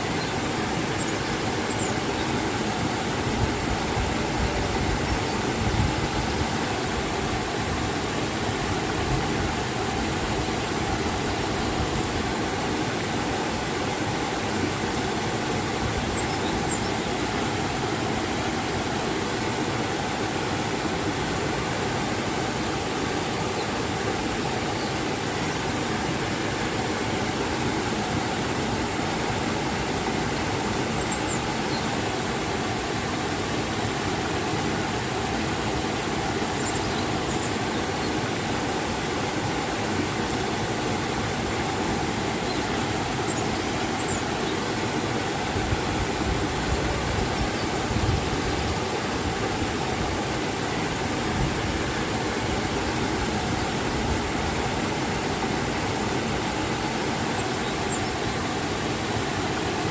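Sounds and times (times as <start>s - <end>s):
waterfall water rushing: 0.0s - 59.9s.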